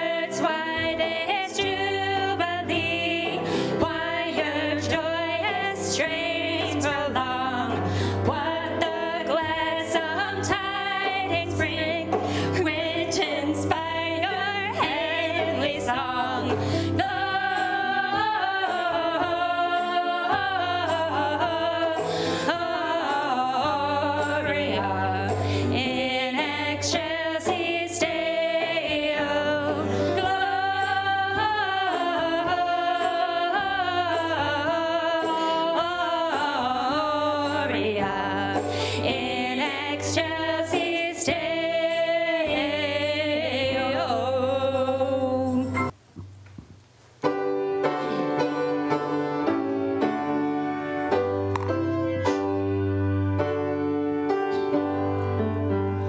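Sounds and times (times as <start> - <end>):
women singing: 0.0 - 45.9
grand piano: 0.0 - 46.3, 47.2 - 56.0.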